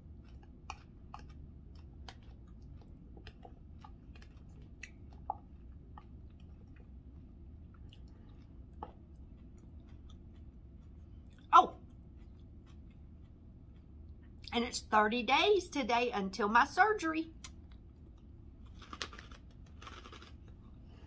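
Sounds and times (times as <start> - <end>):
person chewing salad: 0.0 - 14.5, 17.4 - 21.0
low background hum: 0.0 - 21.0.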